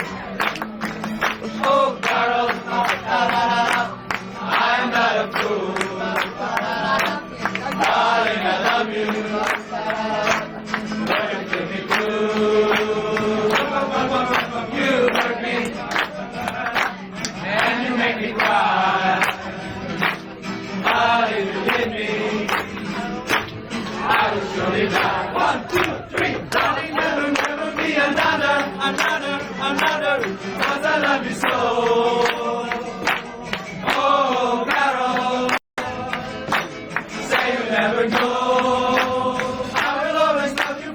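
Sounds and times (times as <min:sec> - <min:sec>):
music: 0:00.0 - 0:40.9
people singing together: 0:00.0 - 0:40.9.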